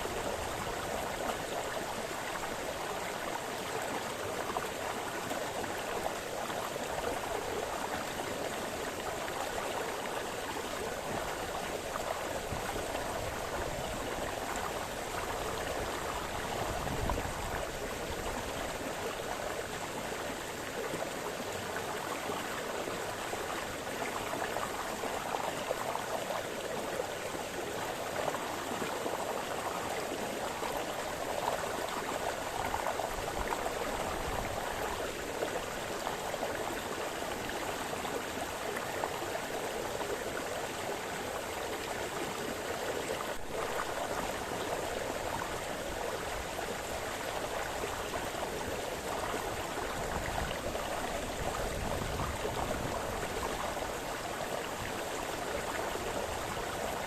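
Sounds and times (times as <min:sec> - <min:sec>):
brook gurgling over stones: 0:00.0 - 0:57.0.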